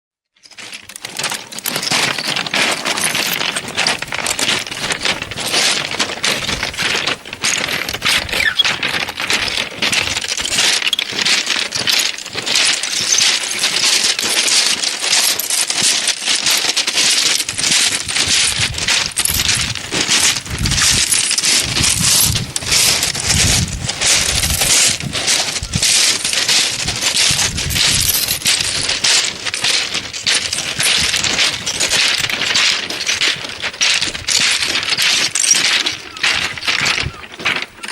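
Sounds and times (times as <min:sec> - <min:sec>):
pebbles rattling and clinking: 0:00.4 - 0:37.9.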